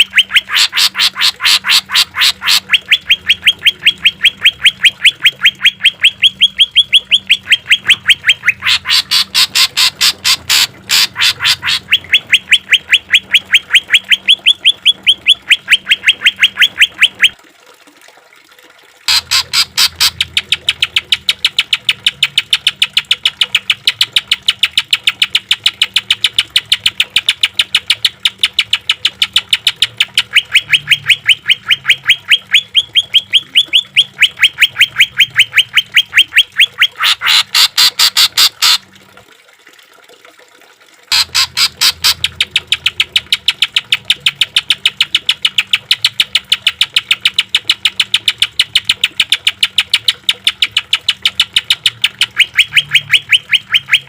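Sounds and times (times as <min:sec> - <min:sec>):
bird singing rapid repeated notes: 0:00.0 - 0:17.4, 0:19.1 - 0:38.8, 0:41.1 - 0:54.0.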